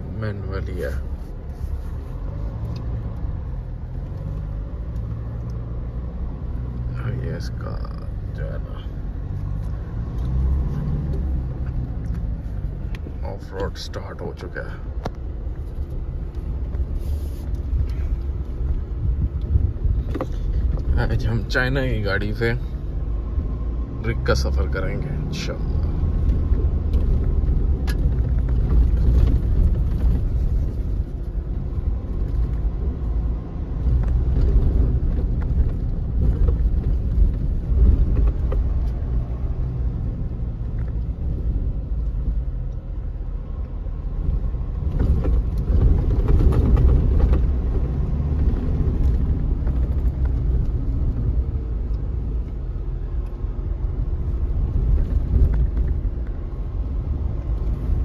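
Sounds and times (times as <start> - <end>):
pickup truck engine and tyres rumbling: 0.0 - 58.0.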